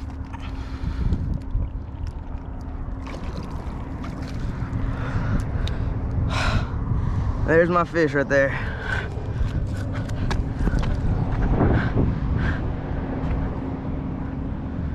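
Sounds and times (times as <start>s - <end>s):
faint constant hum: 0.0s - 14.9s
wind buffeting microphone: 0.0s - 14.9s.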